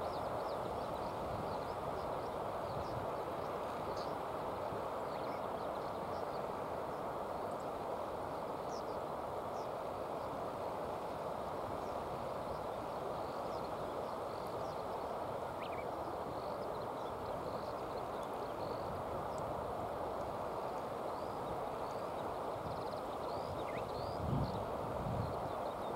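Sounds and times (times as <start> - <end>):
outdoor background noise: 0.0 - 25.9.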